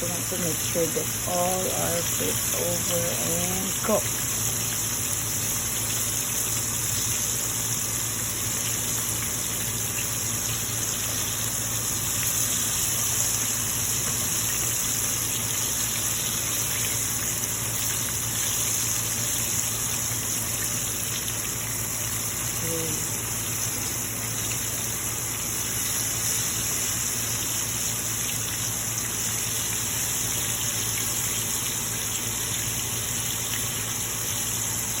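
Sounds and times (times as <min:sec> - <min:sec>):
chicken deep-frying in oil: 0:00.0 - 0:35.0
low steady hum: 0:00.0 - 0:35.0.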